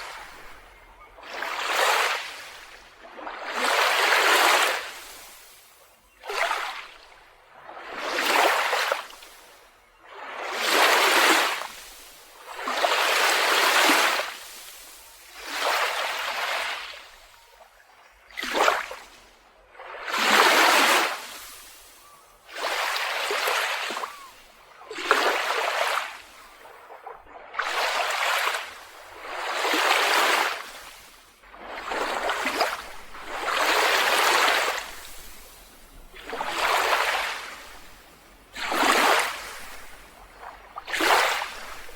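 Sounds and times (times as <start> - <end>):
small waves washing onto beach: 0.0 - 41.9.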